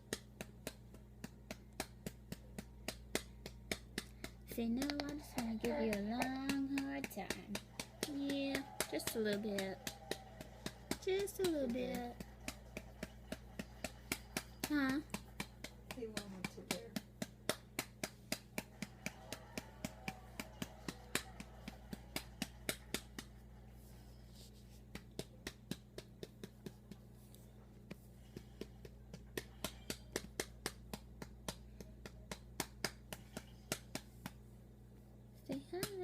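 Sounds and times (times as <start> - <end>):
hand patting doll's back: 0.0 - 23.4, 24.4 - 27.2, 27.9 - 34.4, 35.5 - 36.0
low electrical hum: 0.0 - 36.0.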